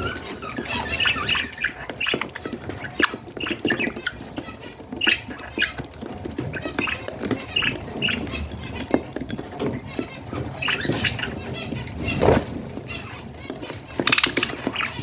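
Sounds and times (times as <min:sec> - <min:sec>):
budgerigars chirping and squawking: 0:00.0 - 0:15.0.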